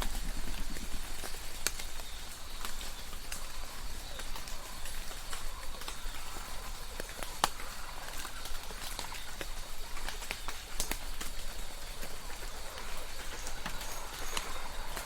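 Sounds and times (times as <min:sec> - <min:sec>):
light rain dripping: 0:00.0 - 0:15.0.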